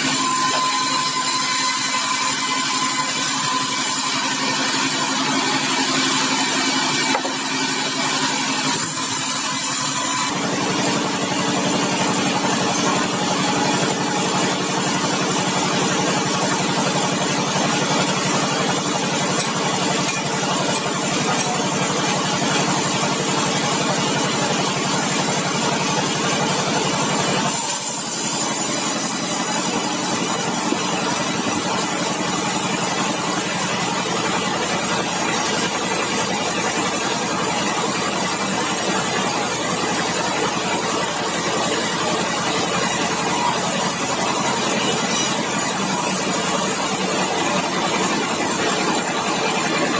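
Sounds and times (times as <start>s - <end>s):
sawmill machinery hum and whine: 0.0s - 49.9s.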